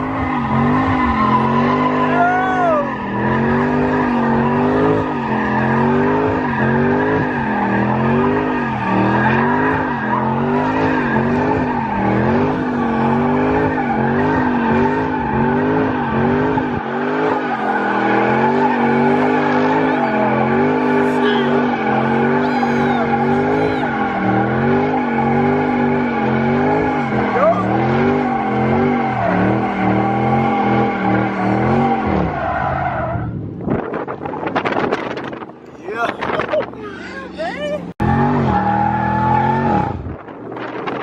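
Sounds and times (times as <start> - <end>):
tyres squealing: 0.0 - 33.2
car engine revving: 0.0 - 41.0.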